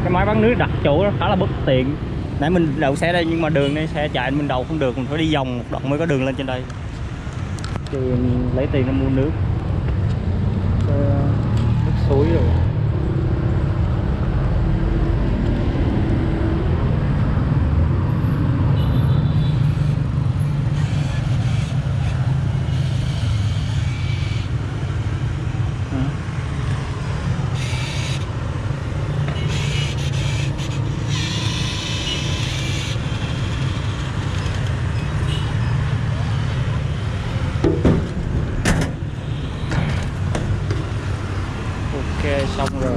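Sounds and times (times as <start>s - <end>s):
low rumble of road traffic: 0.0s - 42.9s.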